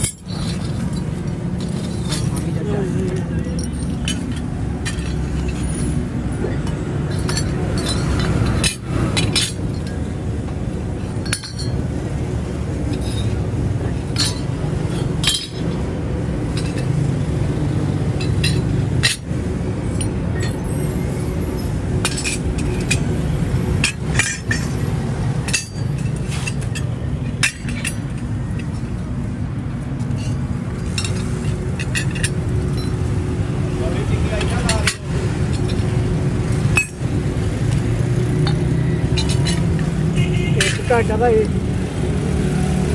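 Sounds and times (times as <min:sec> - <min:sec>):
metal impellers clinking: 0:00.0 - 0:10.1, 0:11.0 - 0:12.0, 0:14.1 - 0:17.2, 0:18.0 - 0:29.2, 0:30.0 - 0:41.5.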